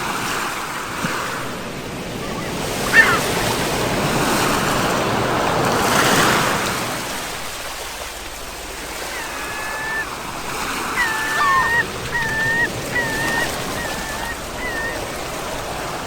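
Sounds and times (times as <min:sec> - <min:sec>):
sea waves washing onto shore: 0:00.0 - 0:16.0.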